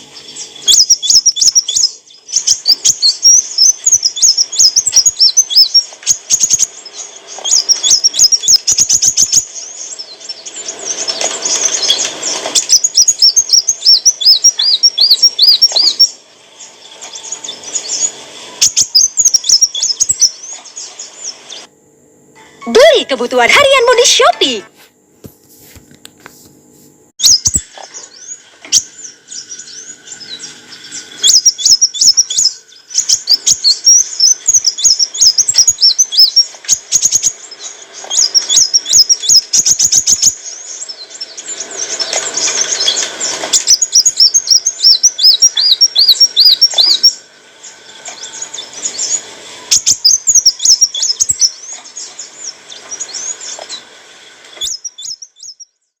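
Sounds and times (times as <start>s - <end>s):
sunbird twittering: 0.0s - 21.7s, 27.2s - 56.0s.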